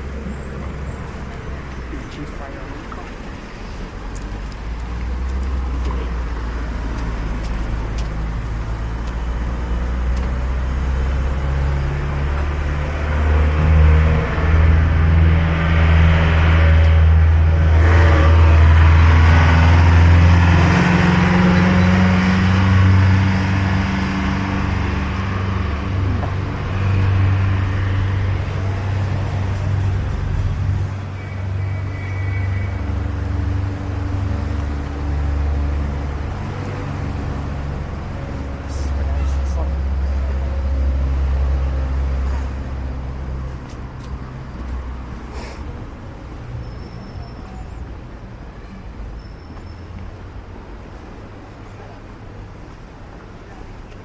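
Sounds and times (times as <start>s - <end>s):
road rush: 0.0s - 54.0s
vehicle engine humming: 0.0s - 54.0s.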